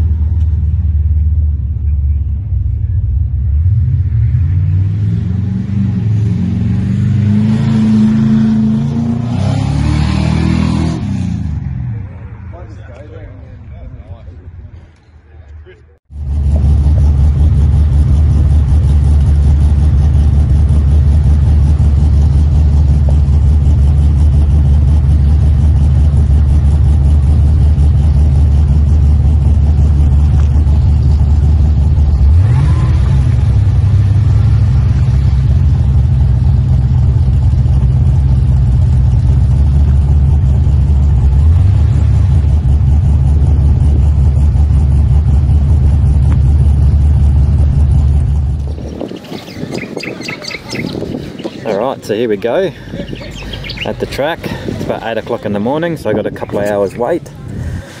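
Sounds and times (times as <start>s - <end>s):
engine idling with throttle blips: 0.0s - 3.9s, 12.0s - 58.0s.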